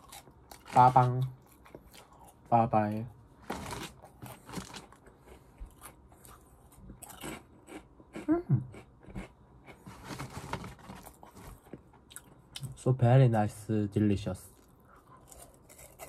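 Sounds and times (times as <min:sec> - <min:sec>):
crunching potato snacks: 0:00.0 - 0:02.6, 0:03.4 - 0:12.7, 0:14.5 - 0:16.0.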